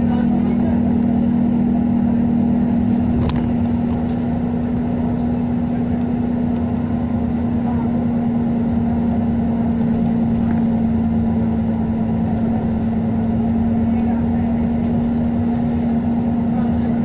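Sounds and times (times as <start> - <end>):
bus engine drone: 0.0 - 17.0
road rumble: 0.0 - 17.0.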